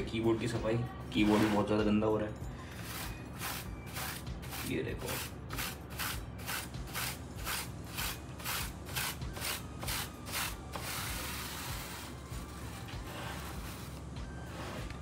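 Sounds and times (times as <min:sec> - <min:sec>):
brush scrubbing keyboard: 0:02.8 - 0:15.0.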